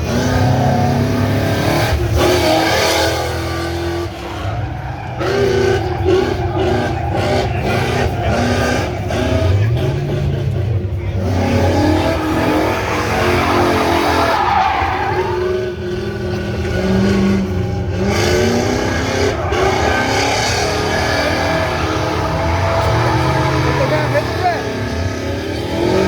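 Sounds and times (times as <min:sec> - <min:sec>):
car engine revving: 0:00.0 - 0:26.0
tires screeching: 0:00.0 - 0:26.0.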